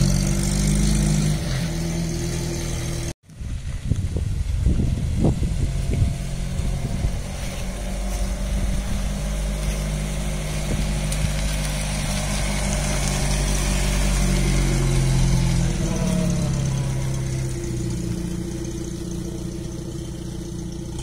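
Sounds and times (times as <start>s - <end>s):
car engine running at low revs: 2.4s - 21.0s.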